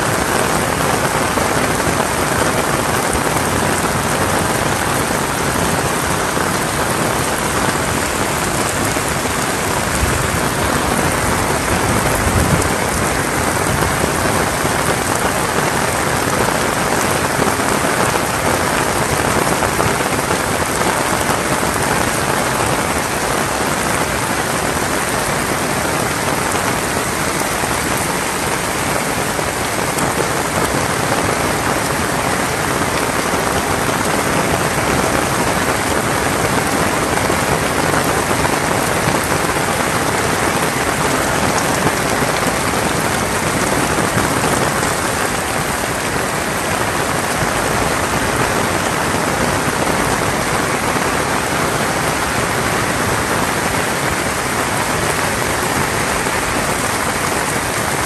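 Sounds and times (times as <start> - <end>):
heavy rain on metal roofs: 0.0 - 58.0.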